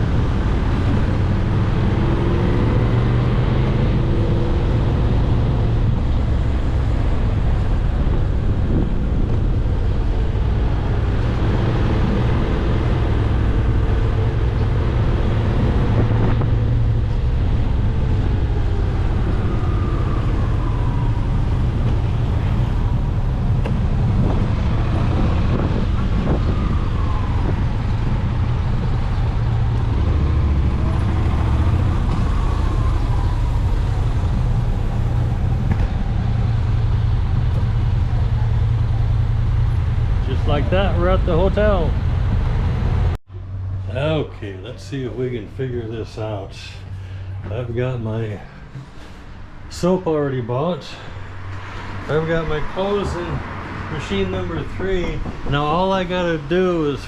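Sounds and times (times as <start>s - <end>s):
motorcycle engine drone: 0.0s - 50.0s
wind and road noise: 0.0s - 57.0s.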